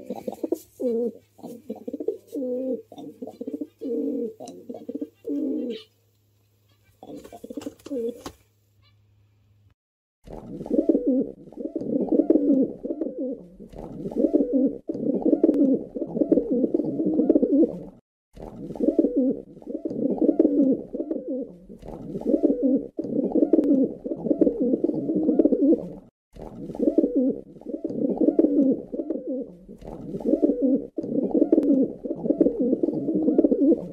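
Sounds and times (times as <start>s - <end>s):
pigeons cooing: 0.0s - 5.9s, 6.9s - 8.3s, 10.6s - 18.0s, 18.7s - 26.1s, 26.7s - 33.9s.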